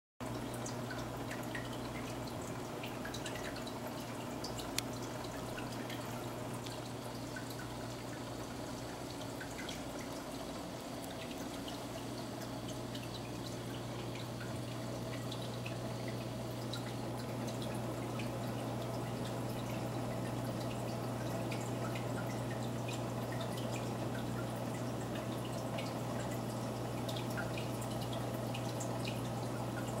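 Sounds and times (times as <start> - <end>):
low steady hum: 0.2 - 30.0
trickling water with drips: 0.2 - 30.0.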